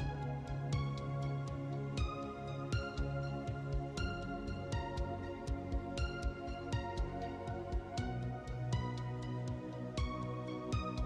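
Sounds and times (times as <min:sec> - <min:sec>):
calm instrumental music: 0:00.0 - 0:11.0.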